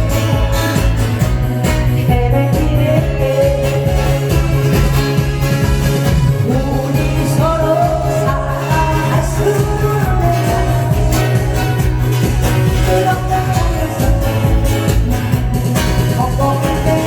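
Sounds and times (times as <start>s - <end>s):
heavy beat backing music: 0.0s - 17.0s
person singing: 0.0s - 17.0s.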